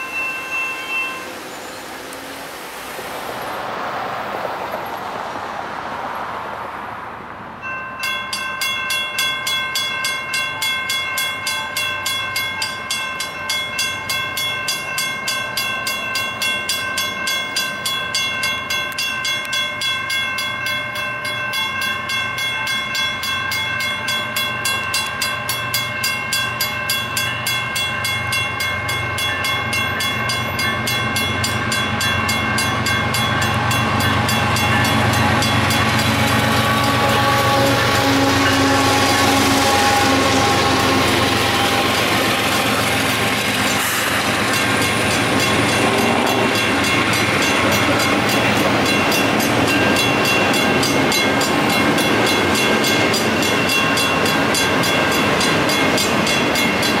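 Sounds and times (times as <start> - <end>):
crossing bell ringing: 0.0 - 3.0, 7.6 - 57.0
train rumble: 0.0 - 57.0.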